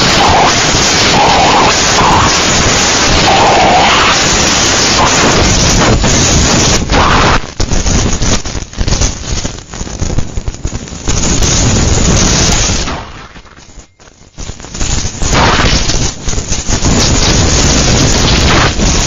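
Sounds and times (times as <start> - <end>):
strong wind buffeting microphone: 0.0 - 13.2, 14.4 - 19.0.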